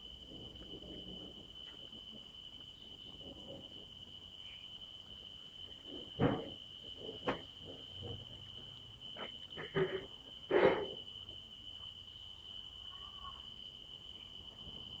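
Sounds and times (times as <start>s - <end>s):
crickets trilling: 0.0s - 15.0s
rapid insect ticking: 0.0s - 15.0s.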